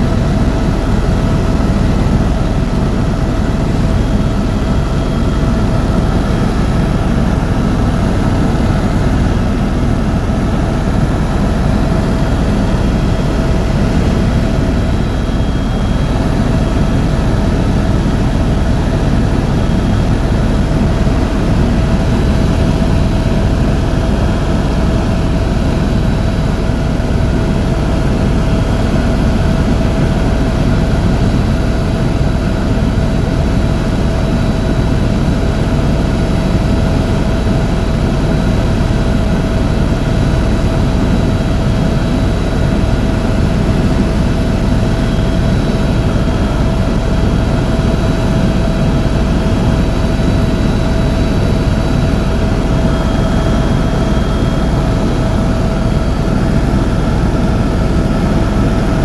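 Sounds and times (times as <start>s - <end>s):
helicopter engine and rotor drone: 0.0s - 59.0s
constant whine: 0.1s - 59.0s.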